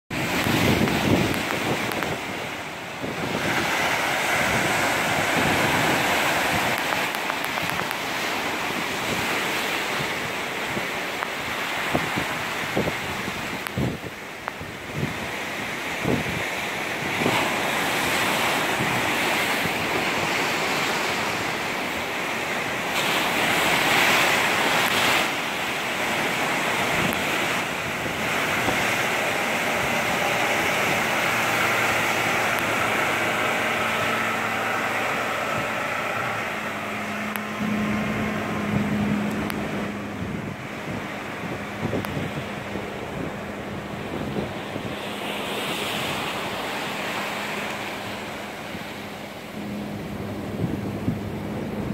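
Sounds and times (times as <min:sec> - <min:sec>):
boat engine hum: 0:00.1 - 0:51.9
waves breaking: 0:00.1 - 0:51.9
wind buffeting microphone: 0:00.1 - 0:51.9.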